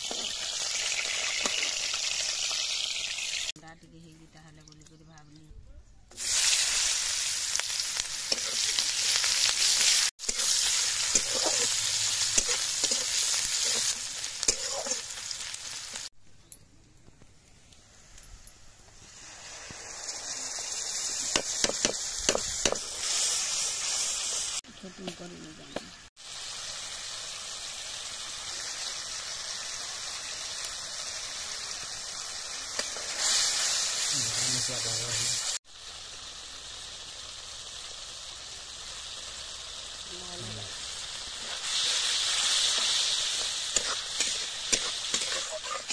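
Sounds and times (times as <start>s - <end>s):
onions sizzling in hot oil: 0.0s - 3.6s, 6.1s - 16.1s, 17.8s - 45.9s.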